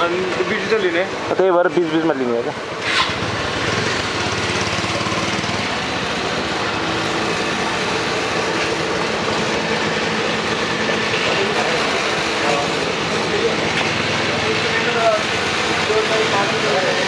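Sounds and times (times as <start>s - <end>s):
motorcycle engine running: 2.6s - 17.0s.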